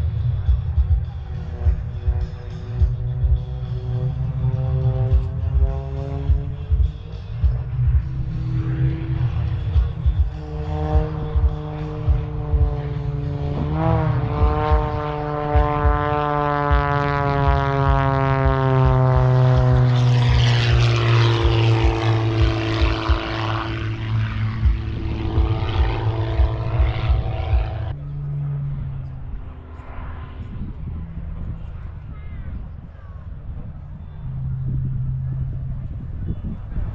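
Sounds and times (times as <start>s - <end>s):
propeller aircraft flying past: 0.0s - 36.9s.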